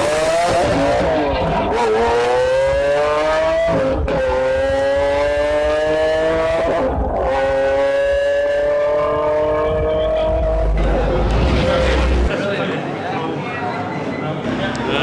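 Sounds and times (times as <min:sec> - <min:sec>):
car engine accelerating hard: 0:00.0 - 0:12.3.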